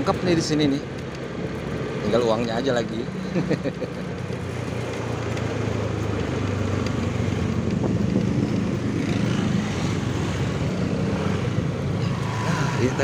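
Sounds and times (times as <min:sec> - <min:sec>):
motorcycle engine hum: 0:00.0 - 0:13.0
road and wind noise: 0:00.0 - 0:13.0.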